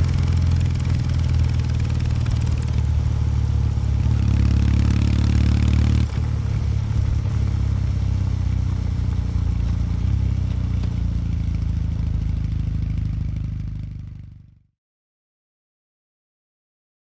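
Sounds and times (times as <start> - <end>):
motorcycle engine riding: 0.0 - 14.7.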